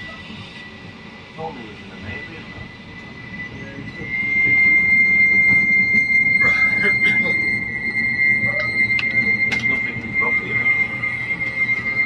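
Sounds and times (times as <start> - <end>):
tram running rumble: 0.0 - 12.0
tram wheels squealing on rails: 0.0 - 12.0.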